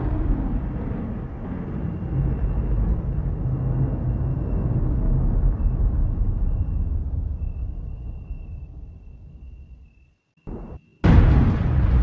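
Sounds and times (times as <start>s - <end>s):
rolling thunder: 0.0s - 9.6s, 10.5s - 12.0s.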